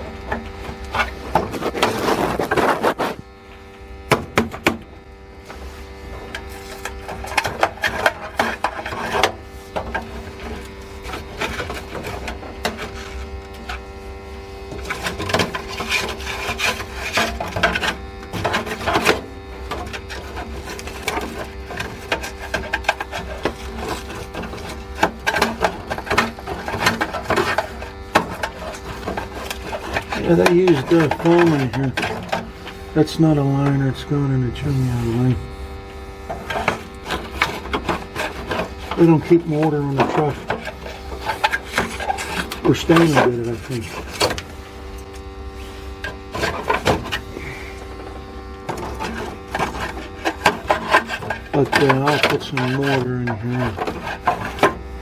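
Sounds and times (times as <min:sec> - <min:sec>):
rough scraping and rubbing: 0:00.0 - 0:55.0
steady hum: 0:00.0 - 0:55.0.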